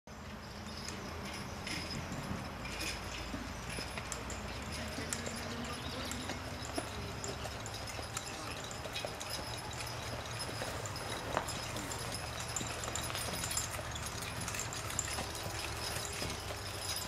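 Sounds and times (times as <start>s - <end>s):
horse hooves clip-clopping on dirt: 0.1s - 17.0s.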